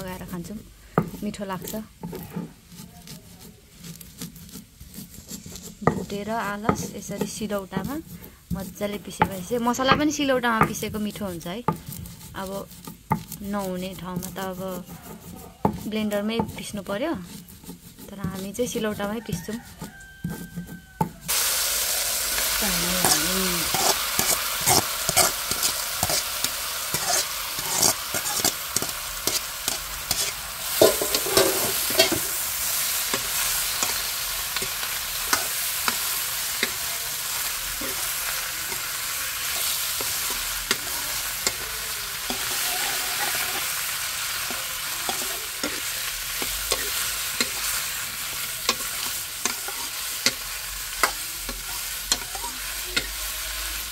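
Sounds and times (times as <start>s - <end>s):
food sizzling in oil: 0.0s - 53.9s
metal spatula scraping a pan: 0.0s - 53.9s.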